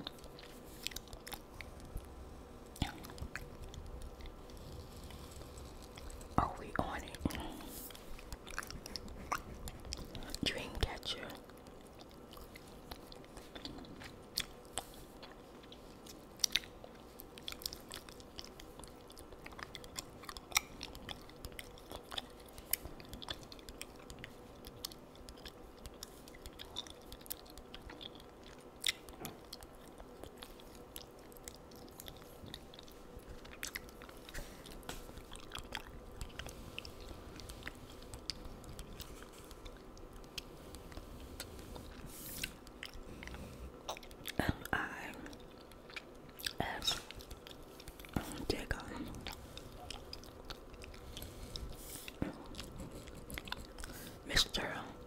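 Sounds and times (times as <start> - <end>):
gum chewing: 0.0 - 55.0.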